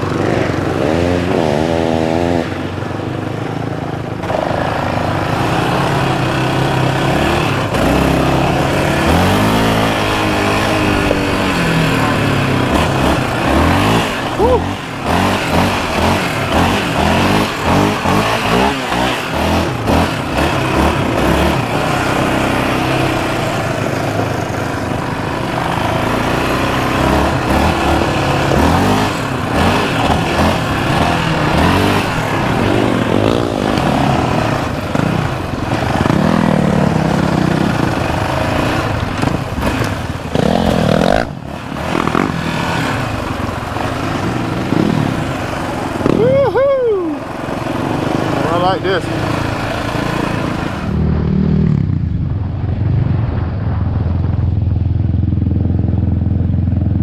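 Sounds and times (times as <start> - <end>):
atv engine revving: 0.0 - 53.1
steady rushing noise: 0.0 - 57.0.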